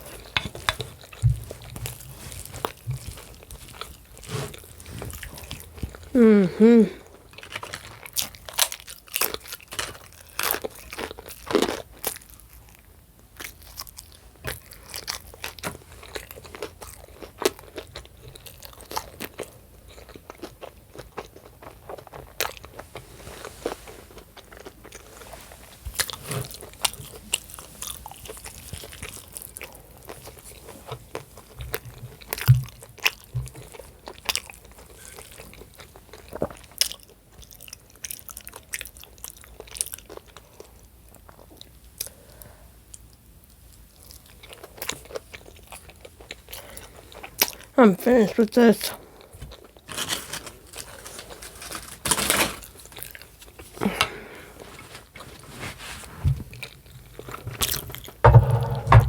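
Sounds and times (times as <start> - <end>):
person chewing food: 0.0 - 47.7, 56.5 - 58.6.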